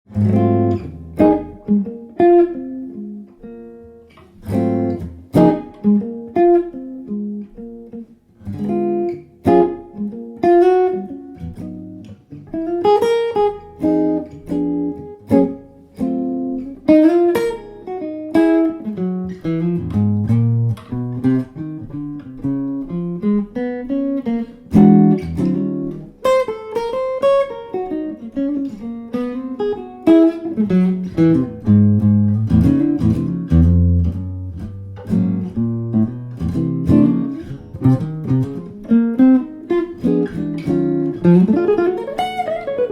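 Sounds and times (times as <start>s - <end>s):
jazz guitar playing chords: 0.1s - 42.9s.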